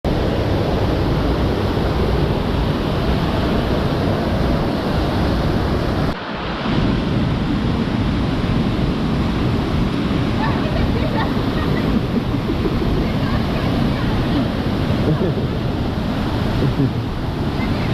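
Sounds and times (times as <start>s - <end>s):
waterfall roaring: 0.1s - 17.9s.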